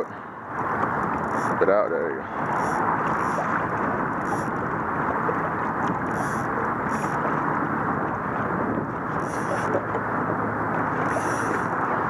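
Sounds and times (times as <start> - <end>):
water noise: 0.0 - 12.0
wind on microphone: 0.0 - 12.0.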